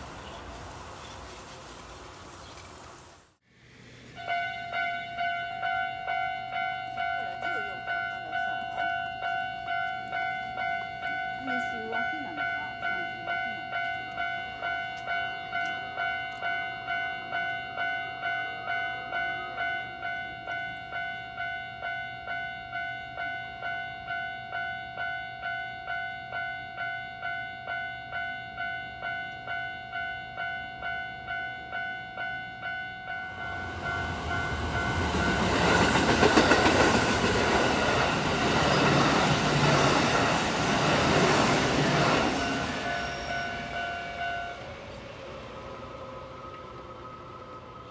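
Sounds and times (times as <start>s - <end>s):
electric train passing: 0.0s - 47.9s
railway crossing alarm bell: 4.1s - 47.9s.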